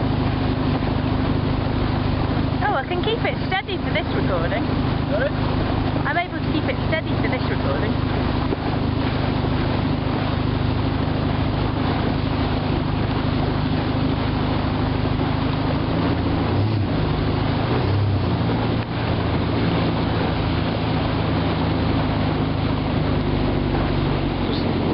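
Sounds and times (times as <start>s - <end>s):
boat engine running: 0.0s - 24.9s
water rushing past hull: 0.0s - 24.9s
wind: 0.0s - 24.9s.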